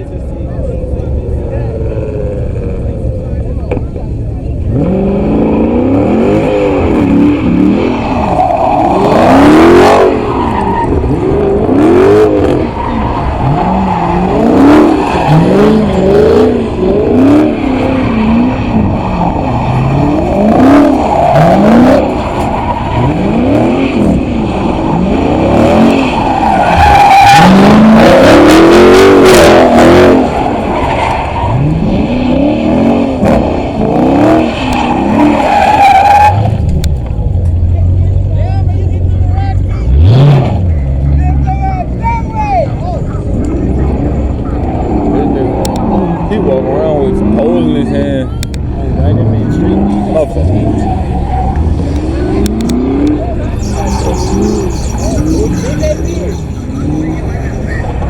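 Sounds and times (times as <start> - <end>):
car engine revving: 0.0 - 58.0
tyres squealing and skidding: 4.7 - 58.0.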